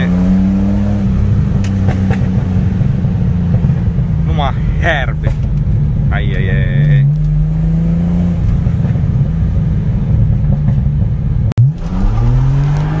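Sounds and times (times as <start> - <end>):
car engine inside cabin: 0.0 - 13.0.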